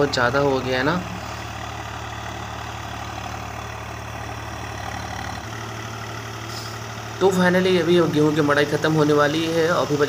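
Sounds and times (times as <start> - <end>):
thresher machine drone: 0.0 - 10.0.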